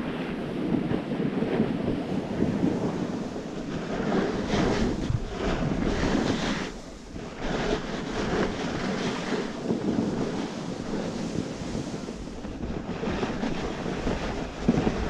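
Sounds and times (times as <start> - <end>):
snowboard carving over packed snow: 0.0 - 15.0
wind buffeting microphone: 0.0 - 15.0.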